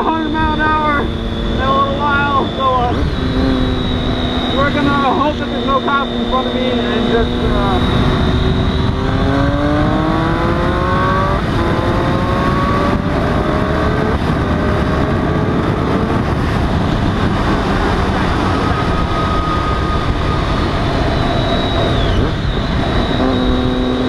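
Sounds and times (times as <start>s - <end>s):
gear upshifts: 0.0s - 24.0s
motorcycle engine accelerating: 0.0s - 24.0s
wind rush: 0.0s - 24.0s.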